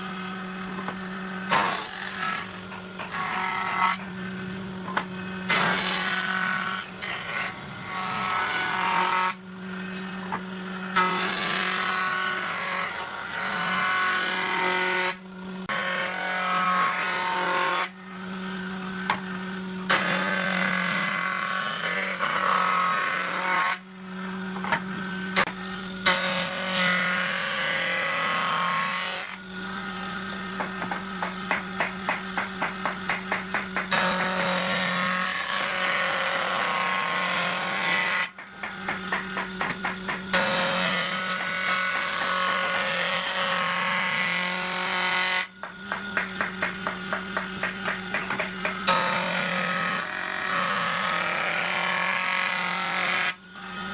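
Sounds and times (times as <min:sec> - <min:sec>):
power tool cutting wood: 0:00.0 - 0:53.9
steady motor hum: 0:00.0 - 0:53.9.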